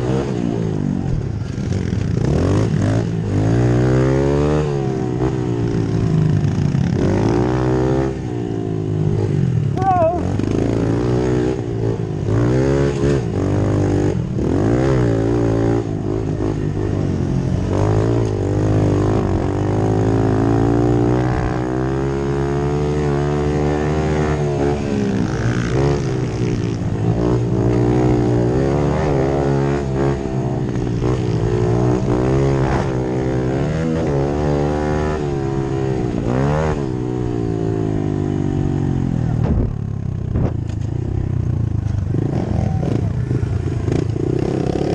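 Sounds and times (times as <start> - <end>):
pit bike engines revving: 0.0 - 44.9.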